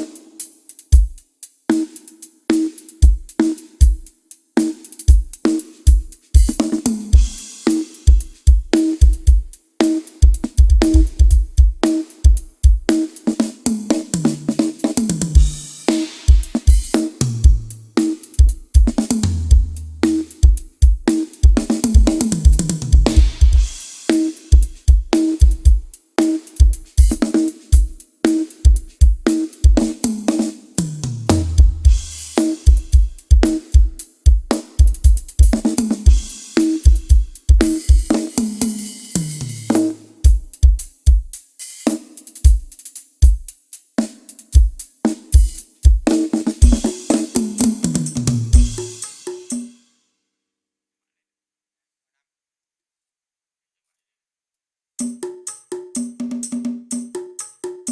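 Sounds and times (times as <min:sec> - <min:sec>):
kick drum and snare beat: 0:00.0 - 0:49.0
cymbals and hi-hat: 0:00.0 - 0:50.0, 0:55.0 - 0:57.9.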